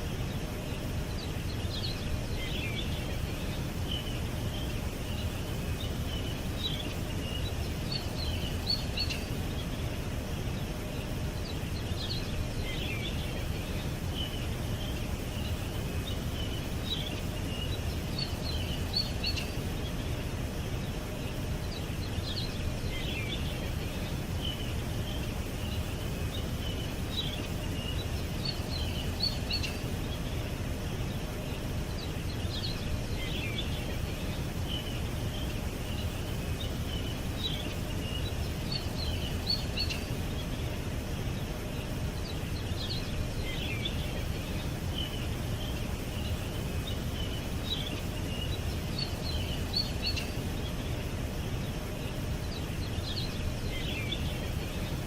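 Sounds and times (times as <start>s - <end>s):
small songbirds twittering: 0.0s - 55.0s.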